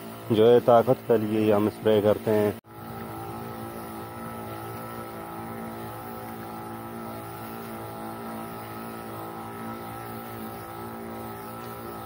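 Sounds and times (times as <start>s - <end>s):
pressure pump running: 0.0s - 12.0s
spray nozzle mist hiss: 0.0s - 12.0s.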